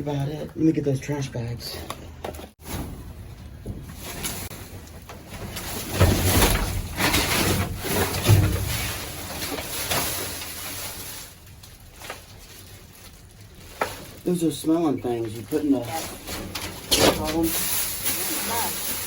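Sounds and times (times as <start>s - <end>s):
plastic bags crinkling: 3.4s - 19.0s.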